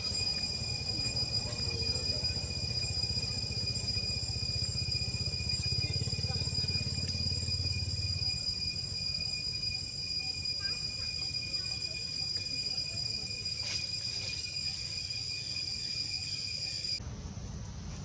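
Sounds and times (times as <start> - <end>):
insects trilling: 0.0 - 17.7.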